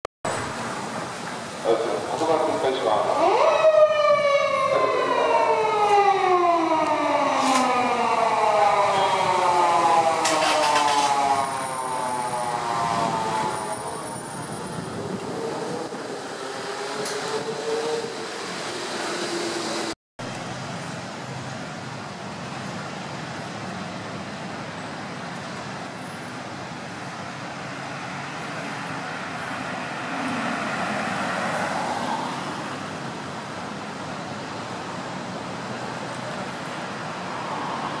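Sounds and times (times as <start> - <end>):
cars passing: 0.3 - 38.0
steady road hum: 0.3 - 38.0.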